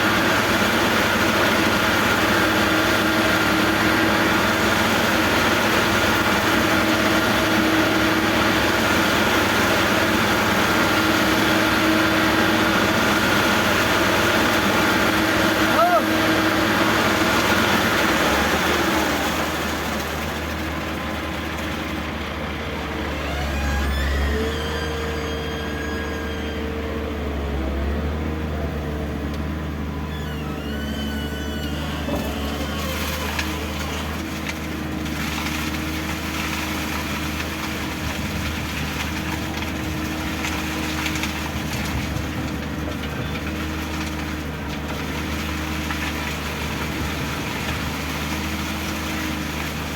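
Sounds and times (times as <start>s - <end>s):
heavy machinery engine running: 0.0s - 49.9s.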